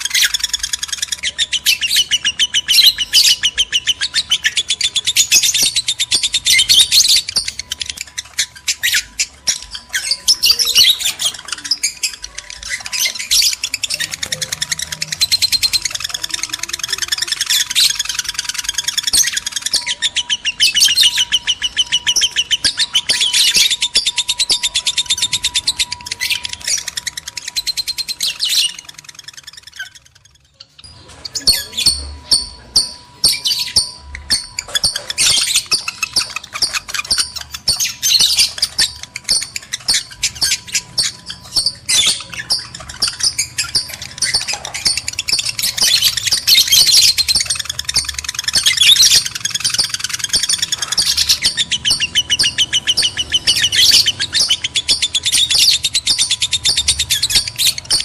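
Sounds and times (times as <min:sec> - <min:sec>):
lovebirds chattering: 0:00.0 - 0:58.0.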